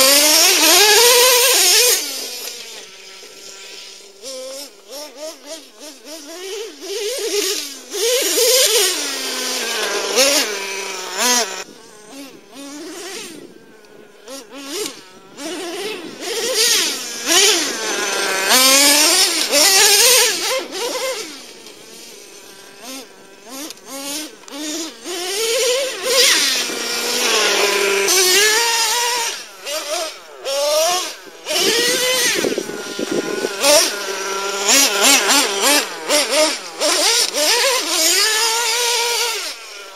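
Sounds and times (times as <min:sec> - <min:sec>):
rc truck engine revving: 0:00.0 - 0:39.9.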